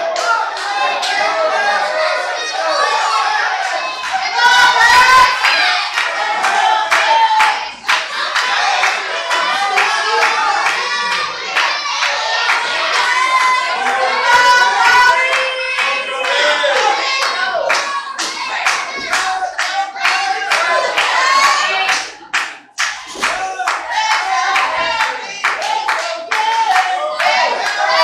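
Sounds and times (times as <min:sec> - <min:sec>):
crowd clapping: 0:00.0 - 0:01.7, 0:03.4 - 0:28.0
spectators shouting and chanting: 0:00.0 - 0:28.0.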